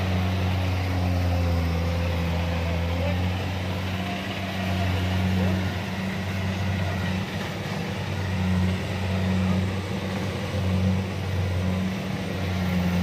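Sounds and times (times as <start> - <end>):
clatter of harvester machinery: 0.0 - 13.0
low engine hum: 0.0 - 13.0.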